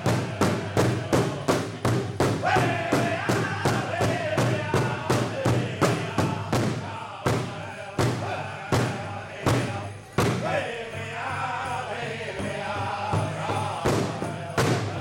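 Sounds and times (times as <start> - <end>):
big drum beating: 0.0 - 10.6, 12.3 - 15.0
group singing: 0.0 - 15.0.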